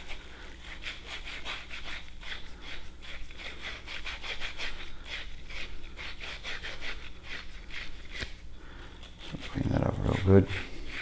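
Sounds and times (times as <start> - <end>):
sanding cloth scrubbing copper pipe: 0.0 - 8.3, 9.2 - 11.0.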